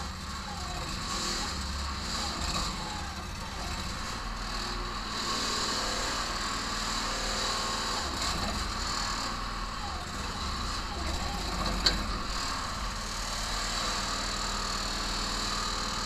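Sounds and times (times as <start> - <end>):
excavator engine running: 0.0 - 16.0
hydraulic arm working: 0.0 - 16.0.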